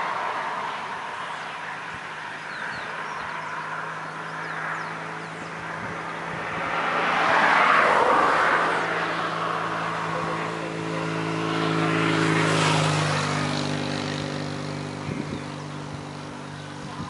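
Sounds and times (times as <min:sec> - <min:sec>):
passing traffic rushing: 0:00.0 - 0:17.0
vehicle engine humming: 0:00.0 - 0:17.0.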